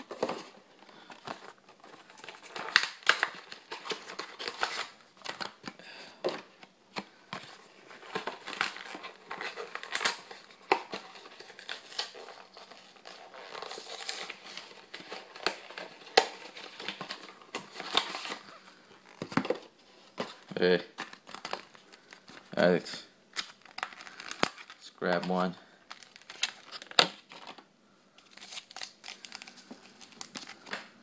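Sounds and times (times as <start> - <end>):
foil wrappers crinkling: 0.0 - 6.0, 7.4 - 19.2, 23.4 - 31.0.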